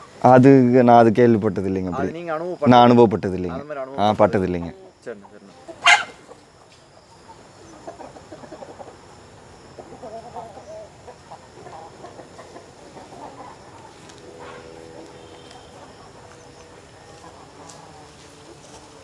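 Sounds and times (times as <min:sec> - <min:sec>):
chickens clucking: 0:01.8 - 0:19.0.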